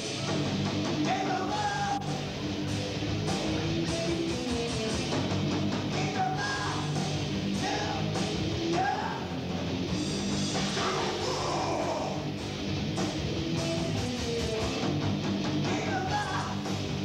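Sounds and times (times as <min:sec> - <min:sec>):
bass guitar: 0:00.0 - 0:17.0
distorted electric guitars: 0:00.0 - 0:17.0
drums: 0:00.0 - 0:17.0.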